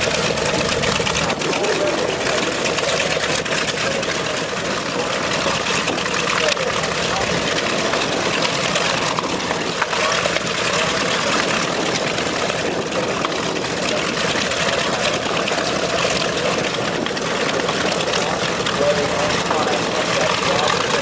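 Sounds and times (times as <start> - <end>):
mix of voices: 0.0 - 21.0
propeller aircraft engine drone: 0.0 - 21.0.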